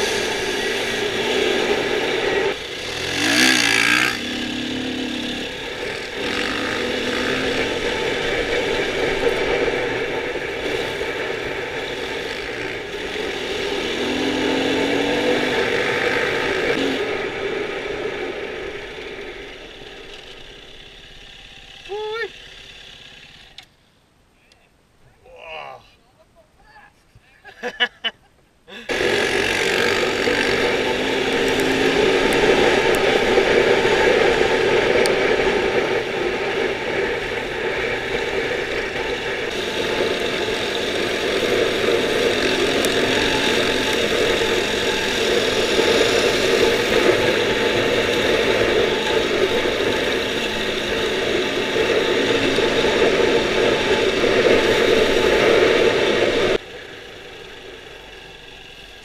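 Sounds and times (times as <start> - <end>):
dirt bike engine running: 0.0 - 23.7, 28.8 - 59.0.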